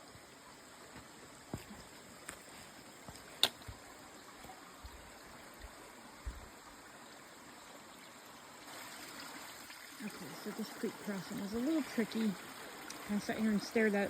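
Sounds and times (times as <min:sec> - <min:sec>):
creek running: 0:00.0 - 0:14.0.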